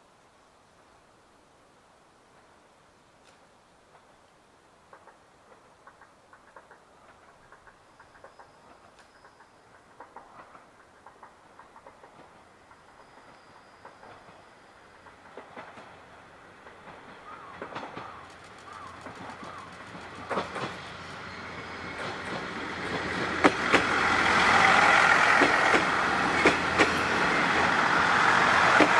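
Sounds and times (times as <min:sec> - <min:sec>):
wheels clacking over rail joints: 0:04.9 - 0:28.9
diesel railcar passing: 0:05.0 - 0:28.9.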